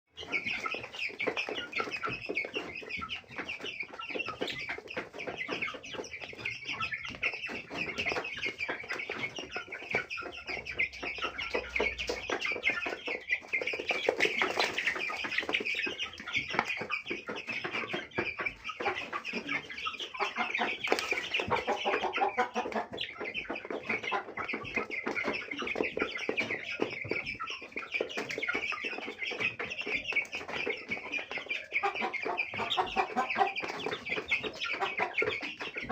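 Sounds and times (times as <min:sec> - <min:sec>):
chickens clucking: 0:00.1 - 0:35.9.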